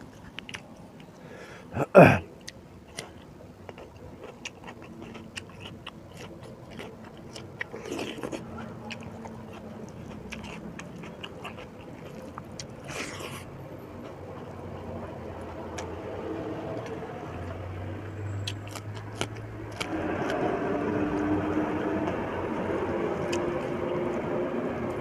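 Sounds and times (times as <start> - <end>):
person chewing food: 0.0 - 17.6, 18.4 - 22.2, 23.2 - 24.3.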